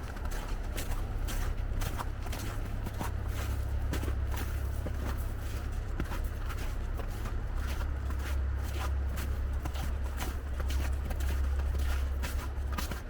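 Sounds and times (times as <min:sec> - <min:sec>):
footsteps on wet snow: 0:00.0 - 0:13.0.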